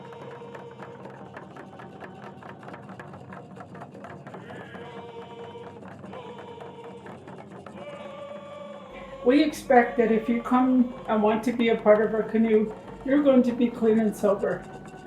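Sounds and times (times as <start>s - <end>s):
rapid irregular clicking: 0.0s - 15.0s
steady low hum: 0.0s - 15.0s.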